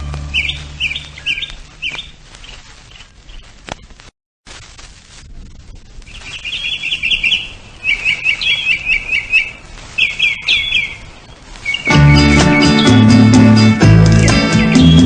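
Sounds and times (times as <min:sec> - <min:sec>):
small bird chirping: 0:00.0 - 0:04.0, 0:06.1 - 0:15.0.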